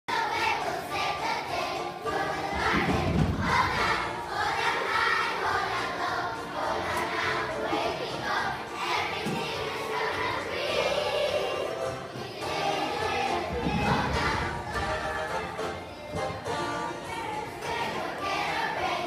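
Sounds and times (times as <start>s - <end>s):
children's choir singing: 0.1s - 19.0s.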